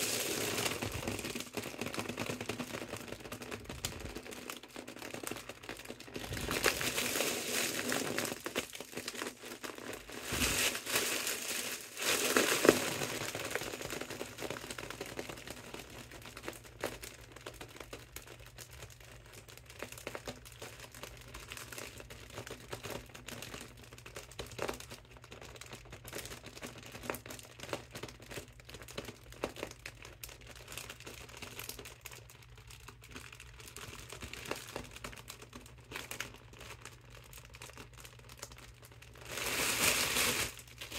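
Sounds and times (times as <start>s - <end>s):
foil balloon crinkling: 0.0s - 40.9s.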